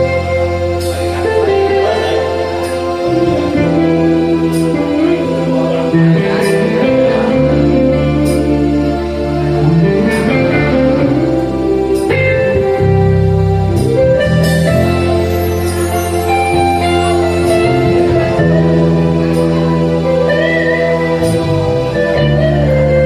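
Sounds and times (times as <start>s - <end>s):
bass line: 0.0s - 23.0s
guitar or keyboard chords: 0.0s - 23.0s
live band playing: 0.0s - 23.0s.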